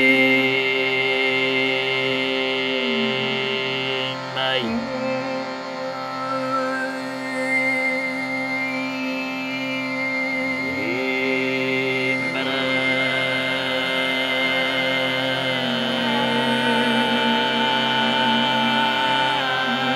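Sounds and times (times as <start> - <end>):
overtone singing over a drone: 0.0 - 19.9.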